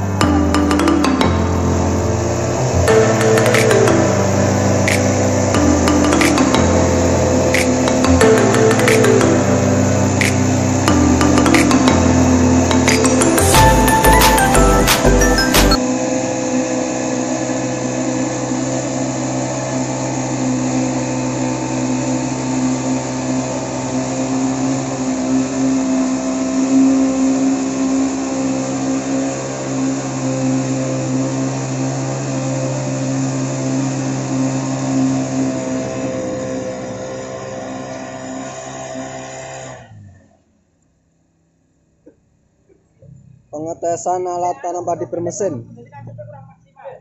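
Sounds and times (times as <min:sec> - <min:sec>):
small engine running steadily: 0:00.0 - 0:40.4.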